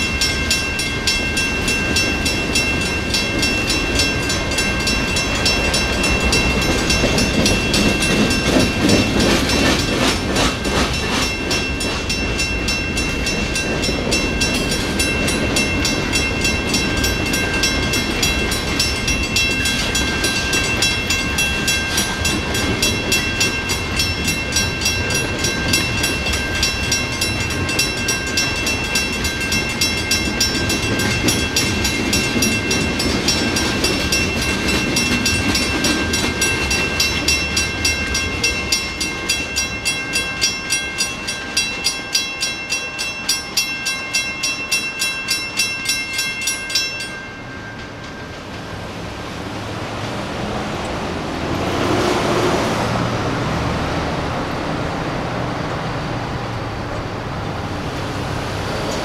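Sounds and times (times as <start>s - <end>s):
crossing bell ringing: 0.0s - 59.0s
street traffic noise: 0.0s - 59.0s
train cars rumbling and clattering: 0.0s - 59.0s.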